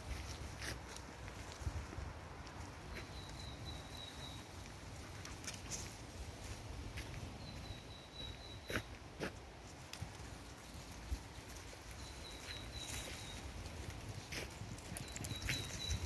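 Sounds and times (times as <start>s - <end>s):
footsteps in fallen leaves: 0.0s - 9.0s, 9.6s - 16.0s.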